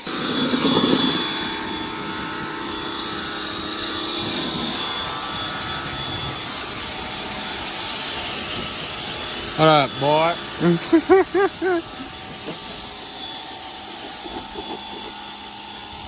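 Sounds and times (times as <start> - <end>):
pressure washer running: 0.0 - 16.0.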